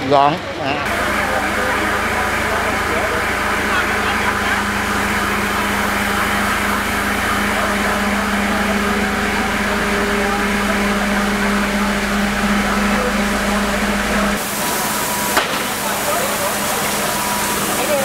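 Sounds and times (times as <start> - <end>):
fire truck engine droning: 0.0 - 18.0.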